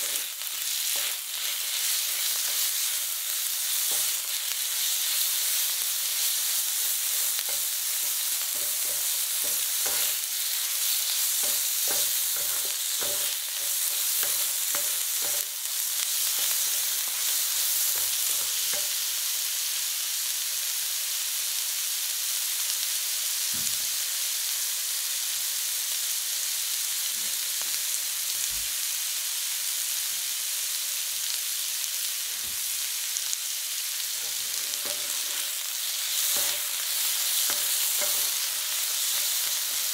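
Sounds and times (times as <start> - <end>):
meat sizzling on a griddle: 0.0 - 39.9.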